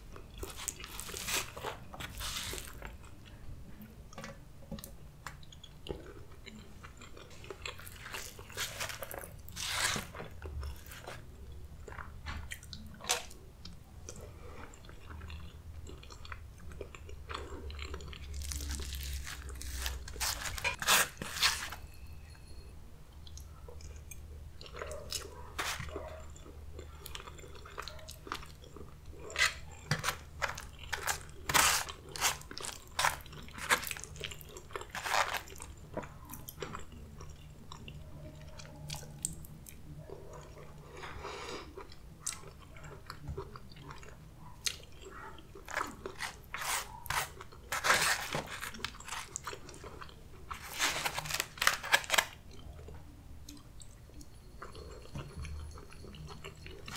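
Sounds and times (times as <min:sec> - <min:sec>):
chewing and biting food: 0:00.0 - 0:03.4, 0:04.8 - 0:21.8, 0:23.2 - 0:56.9
food crunching: 0:00.0 - 0:03.4, 0:04.1 - 0:21.9, 0:23.2 - 0:56.9.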